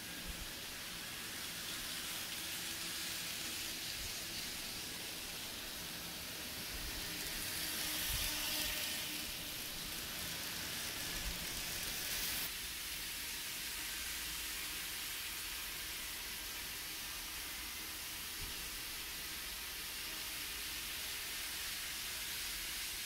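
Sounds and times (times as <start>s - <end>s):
model train wheels and motors hissing: 0.0s - 23.0s.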